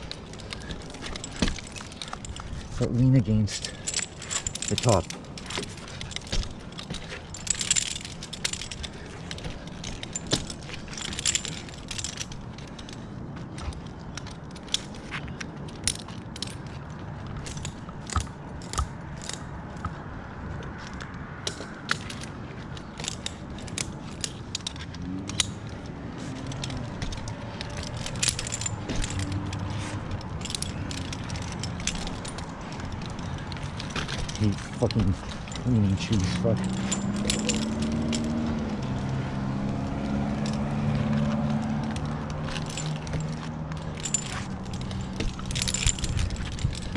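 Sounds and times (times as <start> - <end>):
metal climbing hardware clinking: 0.0 - 46.9.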